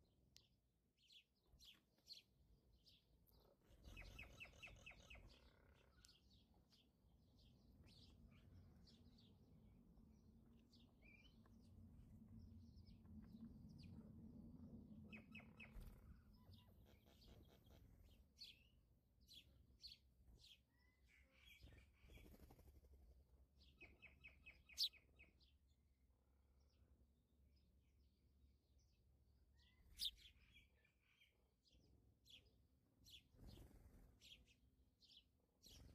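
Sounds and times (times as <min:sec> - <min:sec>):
birds chirping and trilling: 0:01.0 - 0:14.3, 0:14.9 - 0:22.8, 0:23.6 - 0:25.6, 0:29.5 - 0:35.9.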